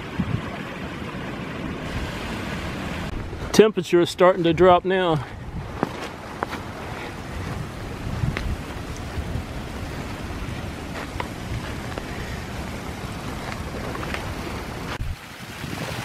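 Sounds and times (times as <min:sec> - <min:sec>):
wind buffeting microphone: 0:00.0 - 0:03.6, 0:04.5 - 0:16.0.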